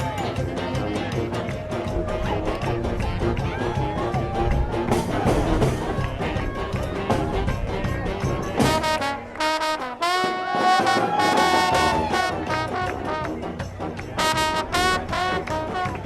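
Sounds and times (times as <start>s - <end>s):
brass music: 0.0s - 16.0s.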